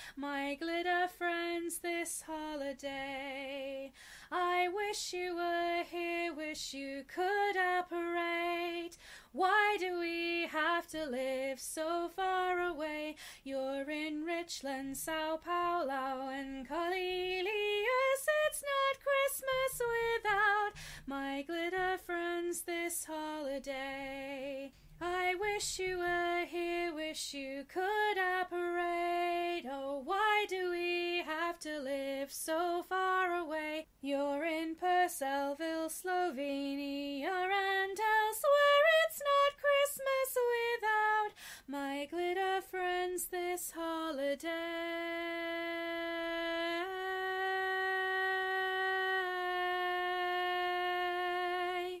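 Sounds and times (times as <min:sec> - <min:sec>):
woman singing: 0:00.0 - 0:52.0.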